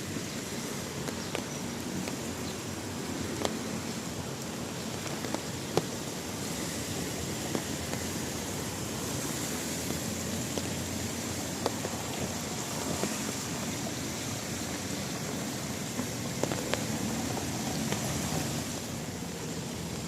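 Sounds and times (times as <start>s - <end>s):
raindrops ticking on surfaces: 0.0s - 20.0s
steady rain hiss: 0.0s - 20.0s.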